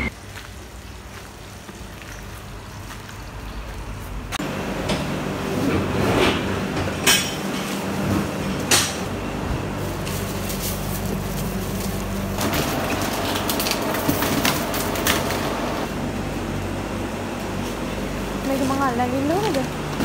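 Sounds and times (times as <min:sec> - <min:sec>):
machinery hum: 0:00.0 - 0:01.1, 0:03.5 - 0:20.0.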